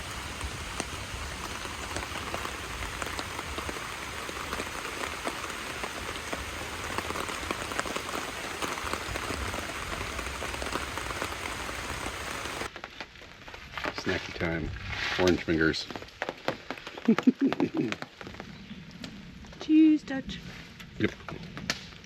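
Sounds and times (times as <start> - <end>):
rain drops pattering: 0.0 - 22.0.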